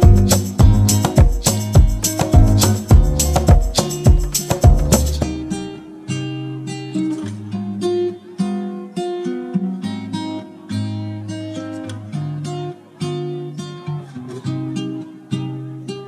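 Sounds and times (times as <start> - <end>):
acoustic guitar plucking: 0.0 - 16.0.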